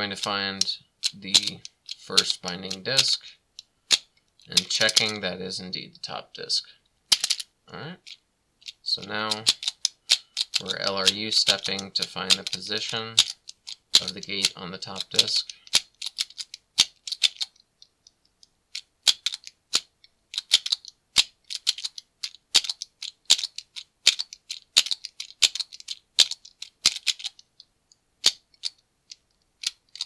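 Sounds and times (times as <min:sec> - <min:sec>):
padlock dial clicking and rattling: 0:01.0 - 0:05.2, 0:07.1 - 0:30.0.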